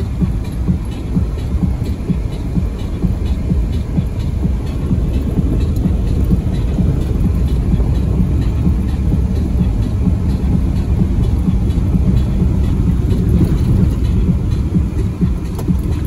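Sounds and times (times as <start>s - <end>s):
vehicle road rumble: 0.0s - 16.0s.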